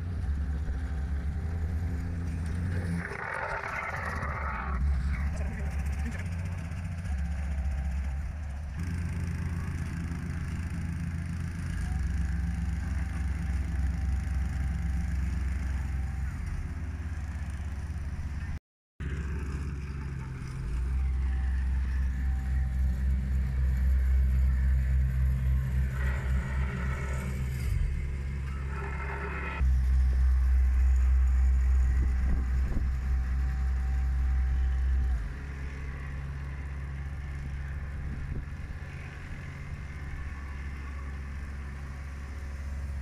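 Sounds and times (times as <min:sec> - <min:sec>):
compactor engine pulsing drone: 0:00.0 - 0:43.0.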